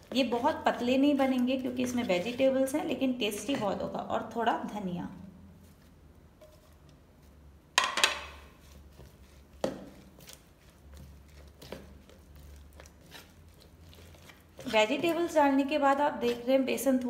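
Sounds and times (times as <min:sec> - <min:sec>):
spoon stirring batter in bowl: 0:00.0 - 0:04.0, 0:06.4 - 0:17.0.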